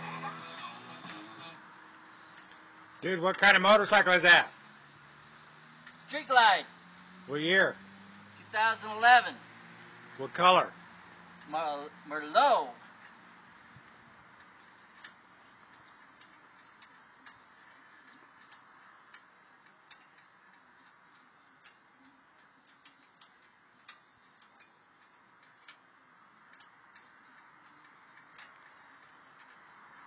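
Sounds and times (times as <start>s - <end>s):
small irregular clicks: 0.1s - 6.3s, 7.8s - 30.0s.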